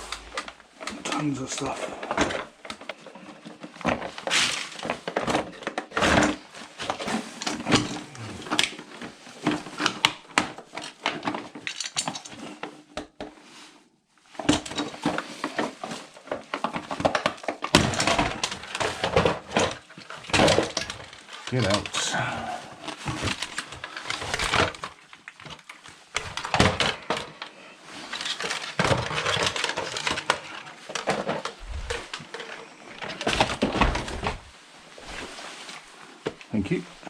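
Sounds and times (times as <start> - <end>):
rubbish clattering in a bin: 0.0 - 12.6, 14.3 - 35.8.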